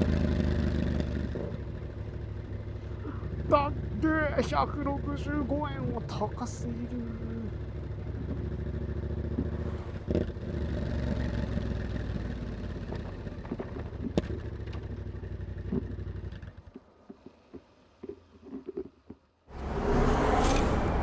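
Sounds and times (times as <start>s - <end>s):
motorcycle engine running: 0.0s - 17.2s.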